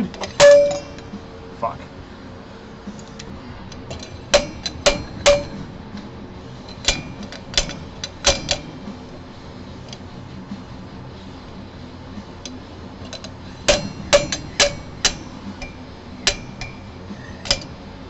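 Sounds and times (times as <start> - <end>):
slide hammer metallic clanks: 0.0 - 1.4, 2.9 - 10.6, 11.4 - 18.0.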